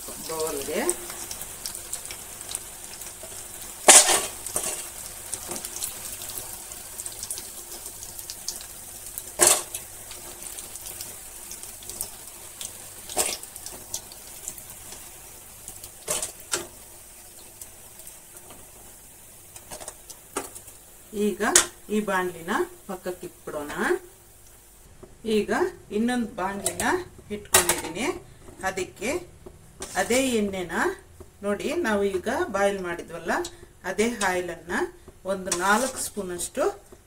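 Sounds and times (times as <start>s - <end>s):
hot oil sizzling: 0.0s - 37.0s.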